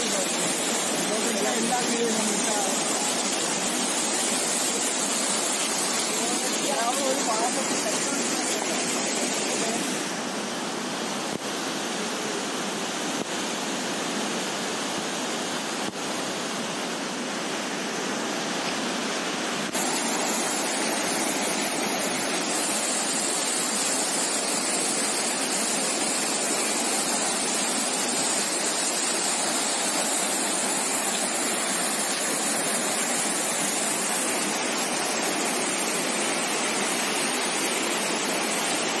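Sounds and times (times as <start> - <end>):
floodwater rushing: 0.0 - 39.0
river rushing past bank: 0.0 - 39.0.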